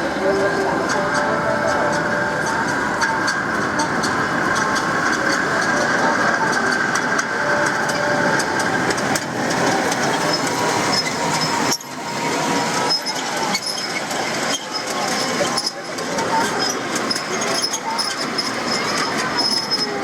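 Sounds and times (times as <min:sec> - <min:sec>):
tram rumbling on rails: 0:00.0 - 0:20.0.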